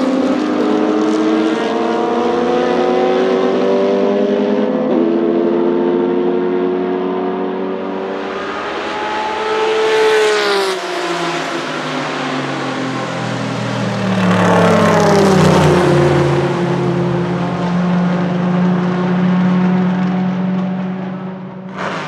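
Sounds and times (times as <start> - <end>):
racing car engines passing by: 0.0 - 22.0.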